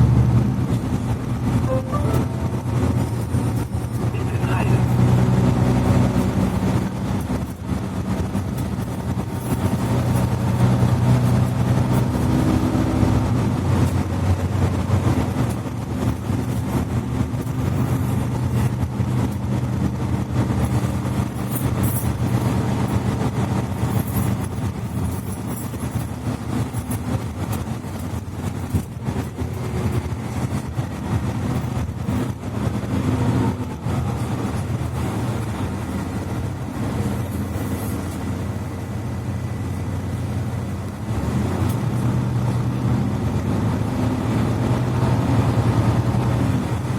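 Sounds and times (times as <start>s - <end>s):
bus engine hum: 0.0s - 46.9s
road and body noise: 0.0s - 46.9s.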